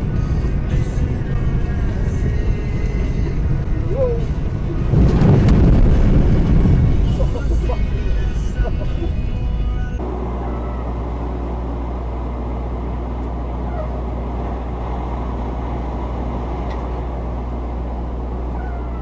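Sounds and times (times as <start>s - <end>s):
road noise: 0.0s - 19.0s
truck engine drone: 0.0s - 19.0s.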